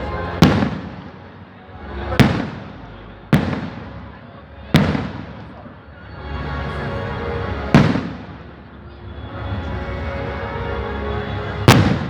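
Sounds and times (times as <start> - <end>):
firecrackers banging: 0.0 - 10.5, 11.4 - 12.0
background music: 0.0 - 12.0.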